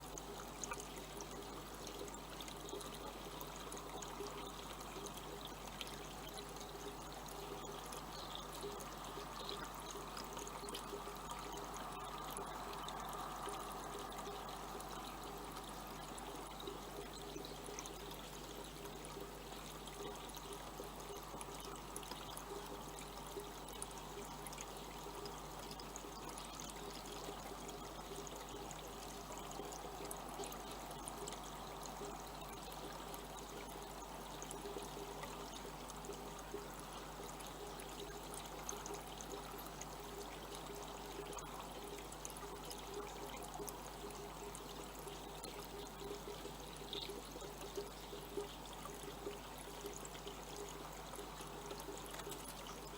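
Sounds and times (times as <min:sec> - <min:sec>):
constant low hum: 0:00.0 - 0:52.9.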